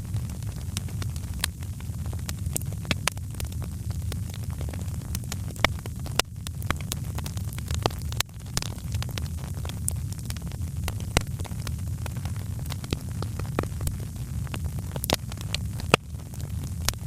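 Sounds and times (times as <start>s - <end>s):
rumble of burning flames: 0.0s - 17.0s
wood fire crackling: 0.0s - 17.0s.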